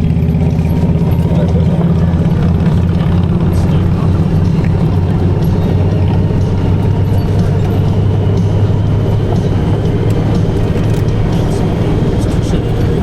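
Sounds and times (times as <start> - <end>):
motorcycle engine drone: 0.0 - 13.0
road and wind noise: 0.0 - 13.0.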